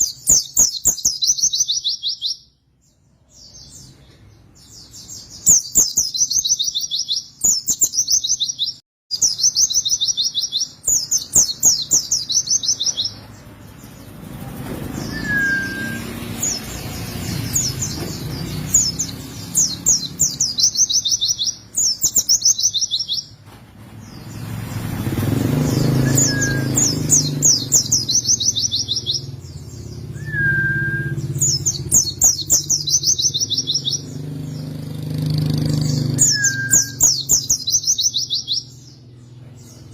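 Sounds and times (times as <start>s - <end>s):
bird singing trilled phrases: 0.0s - 23.4s, 24.0s - 39.9s.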